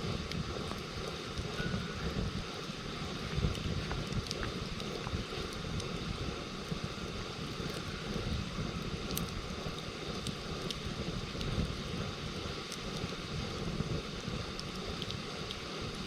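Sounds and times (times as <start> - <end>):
fire low rumble: 0.0 - 16.0
wood crackling and popping: 0.0 - 16.0.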